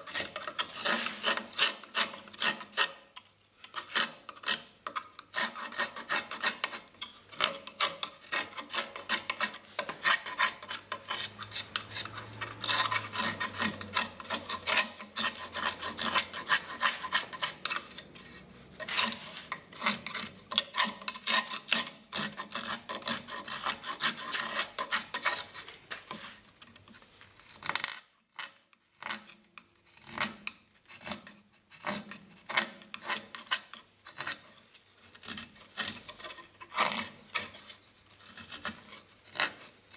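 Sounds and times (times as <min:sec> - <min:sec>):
knife scraping wood: 0:00.0 - 0:39.9.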